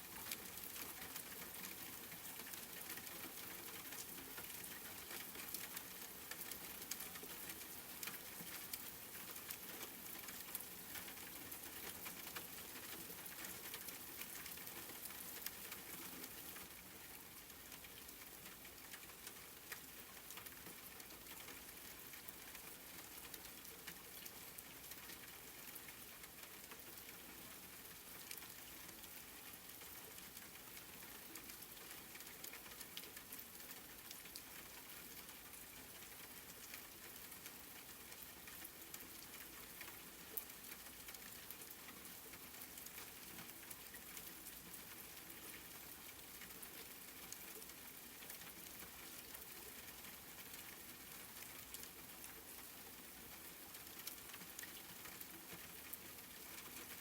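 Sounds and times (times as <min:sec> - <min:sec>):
faint rain hiss: 0:00.0 - 0:57.0.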